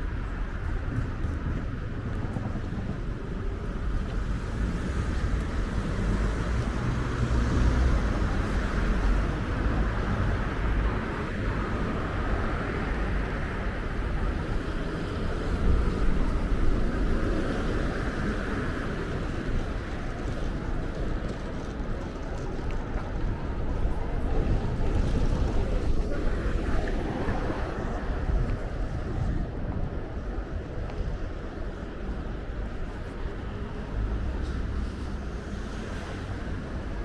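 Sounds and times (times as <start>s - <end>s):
traffic rumble: 0.0s - 37.0s
wind buffeting on microphone: 0.0s - 37.0s.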